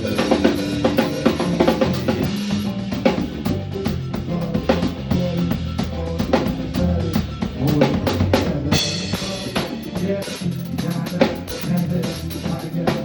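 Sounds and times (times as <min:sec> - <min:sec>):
drum kit kick and snare: 0:00.0 - 0:13.0
live band music: 0:00.0 - 0:13.0.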